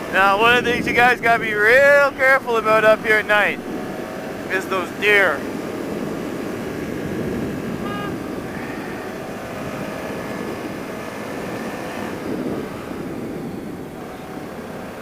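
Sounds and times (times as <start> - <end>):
motorcycle engine: 0.0 - 15.0
wind noise: 0.0 - 15.0.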